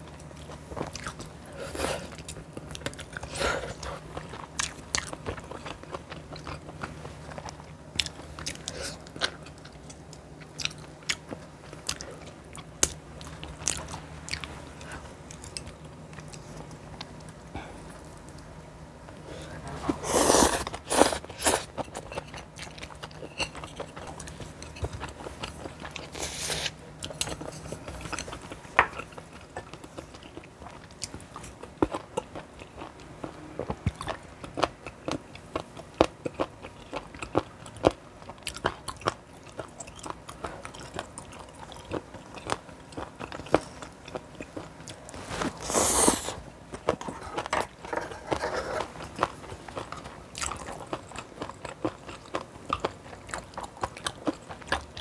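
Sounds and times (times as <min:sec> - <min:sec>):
chewing and crunching food: 0:00.0 - 0:18.5, 0:19.1 - 0:55.0.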